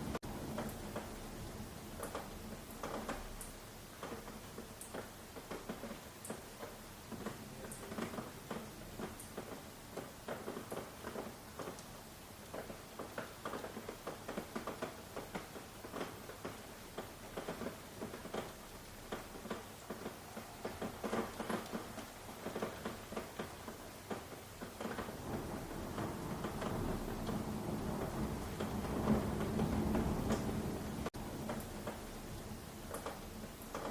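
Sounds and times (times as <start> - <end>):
rain patter on surface: 0.0 - 33.9.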